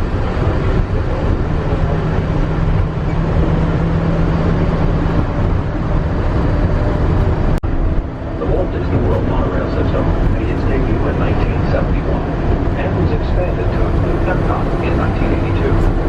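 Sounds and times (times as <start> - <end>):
monorail train rumble: 0.0 - 16.0
steady hum: 0.0 - 16.0.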